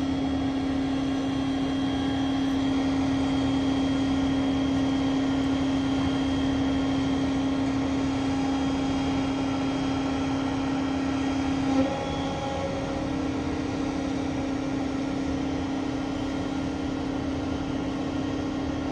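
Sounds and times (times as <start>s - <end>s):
crane engine humming: 0.0s - 18.9s.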